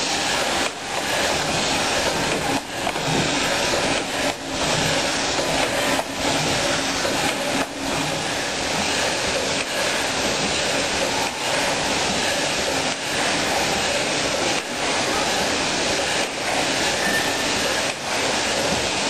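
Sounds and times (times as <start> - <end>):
factory machinery hissing: 0.0 - 19.0.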